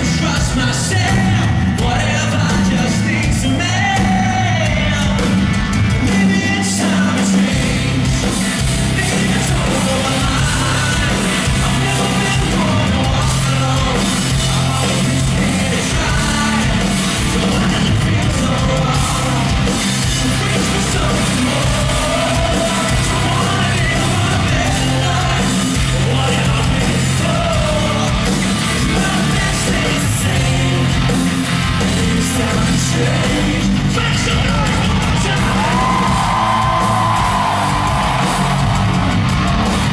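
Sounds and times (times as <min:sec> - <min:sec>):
person singing: 0:00.0 - 0:38.8
live rock band playing: 0:00.0 - 0:39.9.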